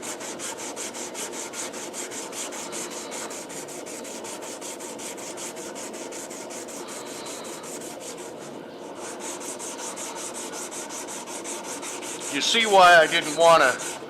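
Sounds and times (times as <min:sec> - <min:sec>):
sandpaper rubbing on knife blade: 0:00.0 - 0:14.0.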